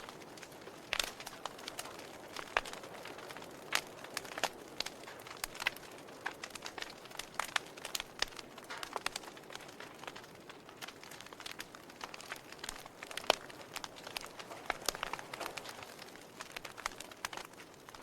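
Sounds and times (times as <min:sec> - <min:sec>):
faint steady hiss: 0:00.0 - 0:18.0
wood fire crackling: 0:00.0 - 0:18.0.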